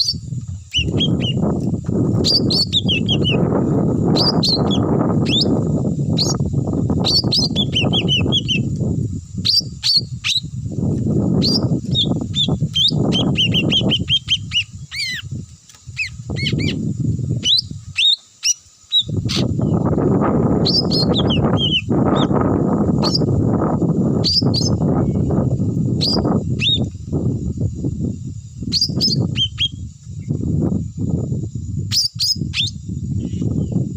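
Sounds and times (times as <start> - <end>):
small bird chirping: 0.0 - 23.5, 24.2 - 33.9.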